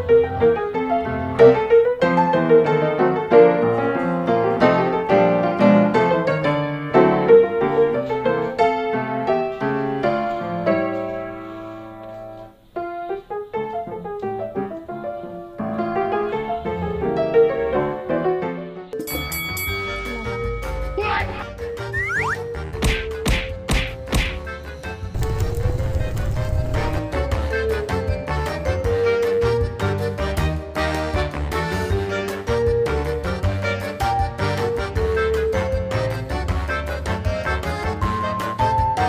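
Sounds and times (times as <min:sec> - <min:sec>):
piano music: 0:00.0 - 0:23.7, 0:24.4 - 0:39.0.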